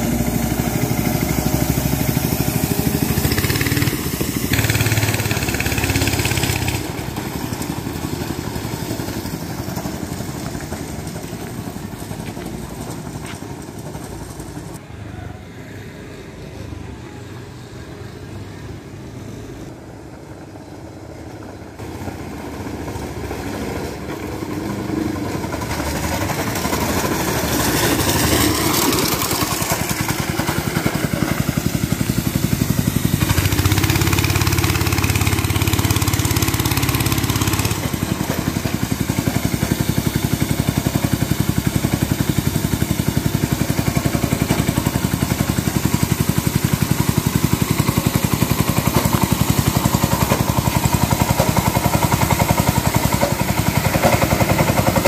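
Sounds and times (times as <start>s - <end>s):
go-kart engine running: 0.0s - 14.9s, 19.6s - 55.0s.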